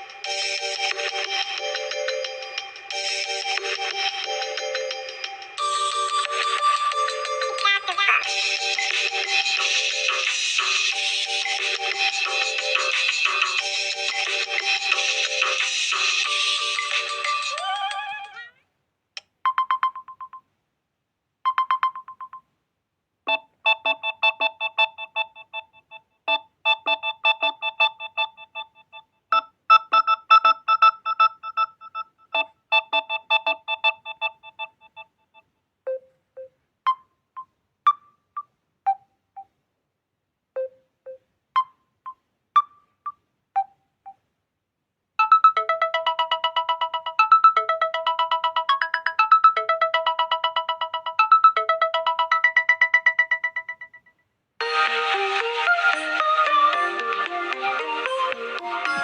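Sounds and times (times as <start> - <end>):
phone ringtones and notification tones: 0.2 - 18.4, 19.5 - 20.4, 21.5 - 22.4, 23.3 - 39.5, 45.2 - 54.8, 56.7 - 59.0.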